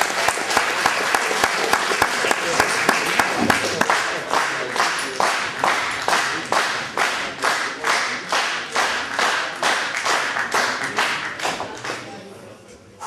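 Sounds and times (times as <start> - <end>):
audience clapping in unison: 0.0 - 12.2.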